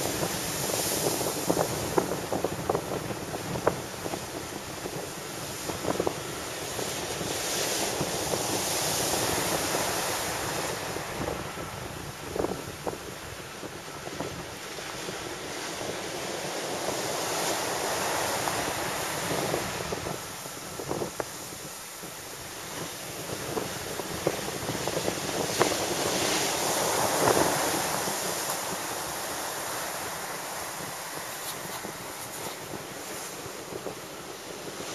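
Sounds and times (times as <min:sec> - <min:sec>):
surf crashing on beach: 0:00.0 - 0:34.9
wind buffeting microphone: 0:00.0 - 0:34.9.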